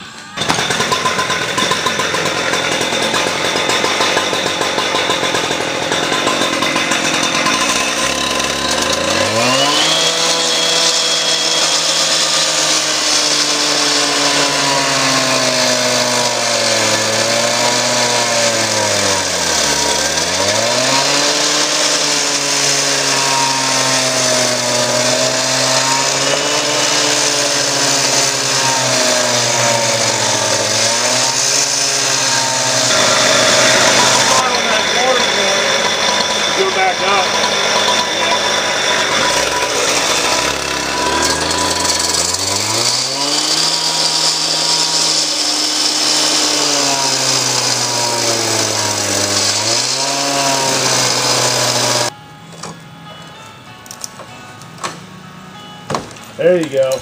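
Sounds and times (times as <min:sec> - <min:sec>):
blade grinding into brick: 0:00.0 - 0:52.1
cut-off saw engine revving: 0:00.0 - 0:52.1.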